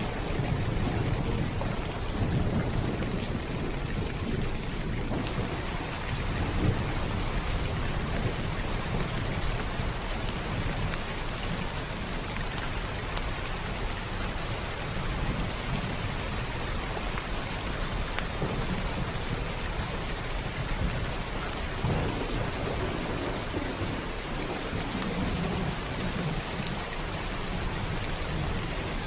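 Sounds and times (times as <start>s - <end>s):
heavy rain on a roof: 0.0s - 29.0s
low rumbling thunder: 0.0s - 29.0s.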